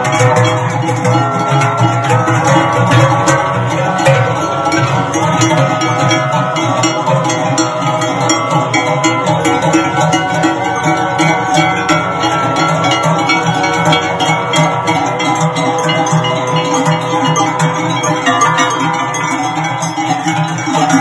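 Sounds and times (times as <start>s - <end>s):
cowbells clanging: 0.0s - 21.0s
cows walking: 0.0s - 21.0s.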